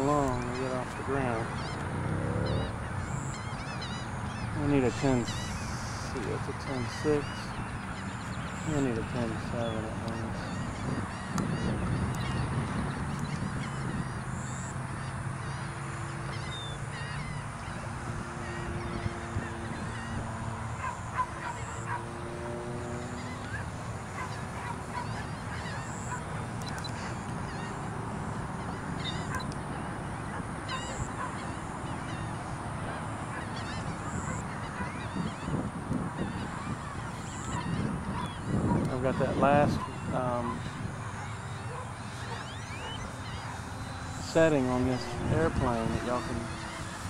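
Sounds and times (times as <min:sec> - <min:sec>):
bird calls: 0:00.0 - 0:47.0
model airplane engine droning: 0:00.0 - 0:47.0.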